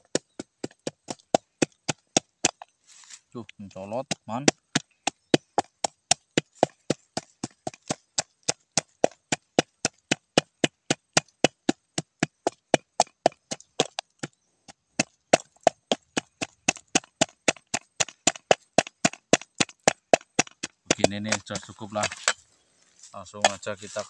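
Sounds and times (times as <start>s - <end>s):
pestle pounding paste: 0.0s - 2.7s, 3.6s - 22.4s, 23.4s - 24.0s.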